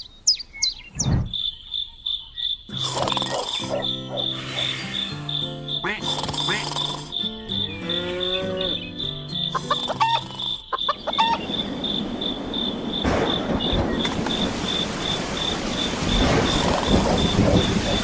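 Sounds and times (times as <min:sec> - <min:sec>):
chicken calls: 0:00.4 - 0:18.0
pulsing insect chirp: 0:01.1 - 0:18.0.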